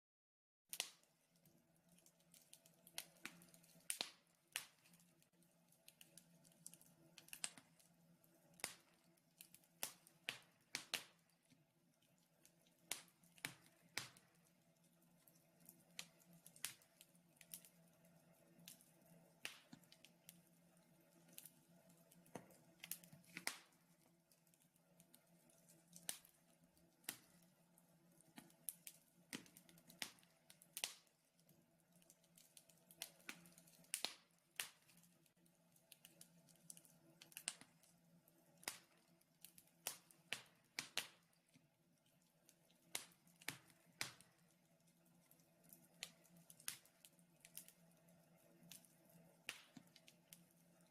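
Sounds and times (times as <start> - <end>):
wood fire crackling: 0.7 - 50.9.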